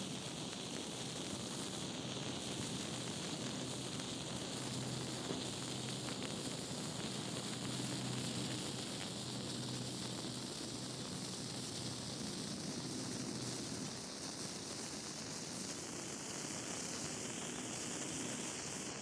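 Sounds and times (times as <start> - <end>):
faint crackles: 0.1 - 19.0
matches burning with hissing sizzle: 0.1 - 19.0.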